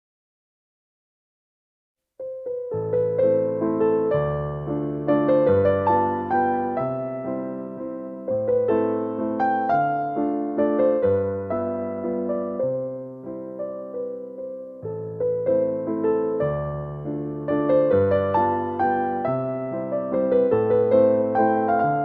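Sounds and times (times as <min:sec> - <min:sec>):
slow gentle piano music: 0:02.2 - 0:22.0.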